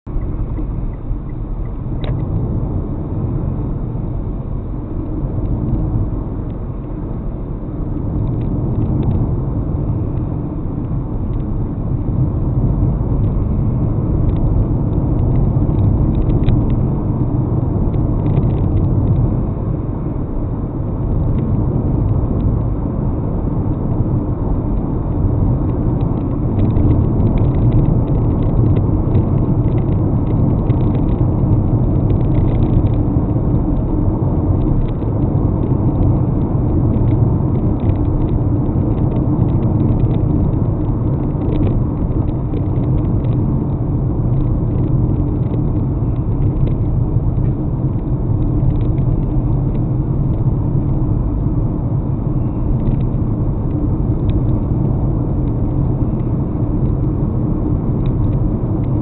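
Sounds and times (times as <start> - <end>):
car interior engine and tyre rumble: 0.0 - 59.0.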